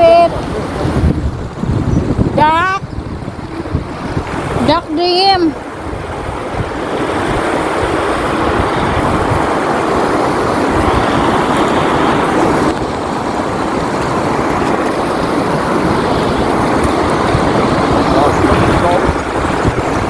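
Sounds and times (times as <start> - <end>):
river rushing over rocks: 0.0 - 20.0
wind buffeting microphone: 0.0 - 20.0.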